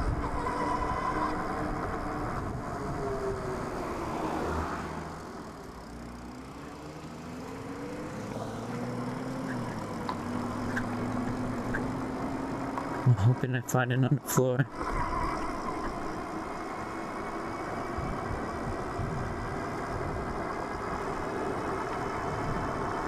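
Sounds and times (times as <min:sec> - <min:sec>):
electric bike motor hum: 0:00.0 - 0:13.3, 0:14.7 - 0:23.0
wind and road noise: 0:00.0 - 0:23.0.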